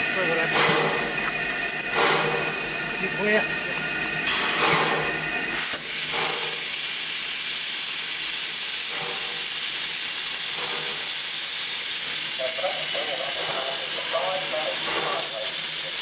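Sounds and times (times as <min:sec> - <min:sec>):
steam locomotive hissing steam: 0:00.0 - 0:16.0.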